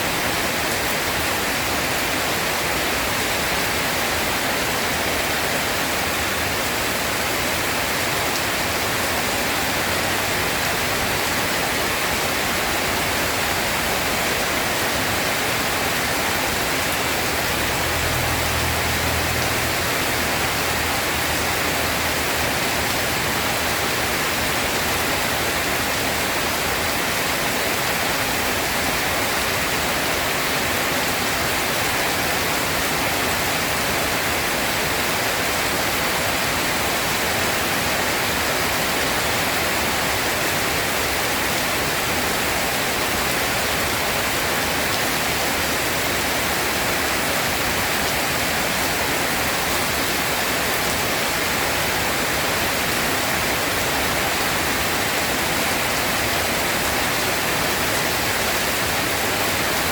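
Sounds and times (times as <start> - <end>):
heavy rainfall: 0.0 - 59.9.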